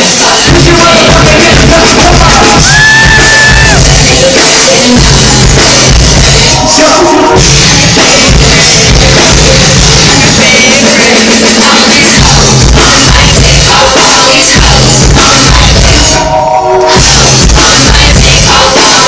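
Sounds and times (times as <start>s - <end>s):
loud amplified music with bass and drums: 0.0s - 19.0s
person singing: 0.0s - 19.0s.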